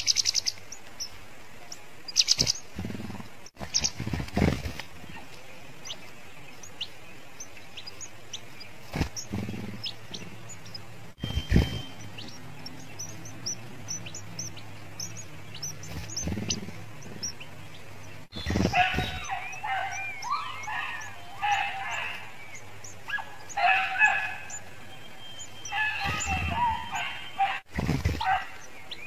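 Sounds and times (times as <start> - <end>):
high thin bird chirps: 0.0 - 29.0
nestlings begging chatter: 0.0 - 29.0.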